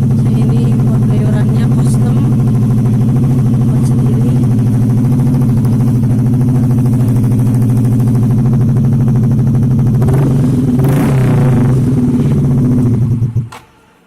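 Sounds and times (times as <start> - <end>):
scooter engine idling: 0.0 - 13.6.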